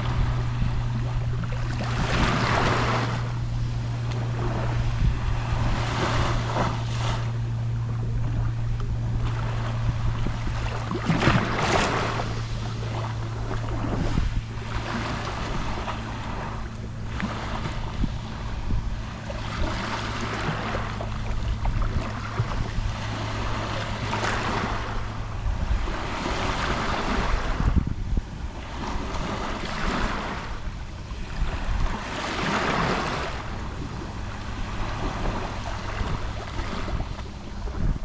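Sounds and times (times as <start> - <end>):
sea waves lapping on shore: 0.0 - 38.0.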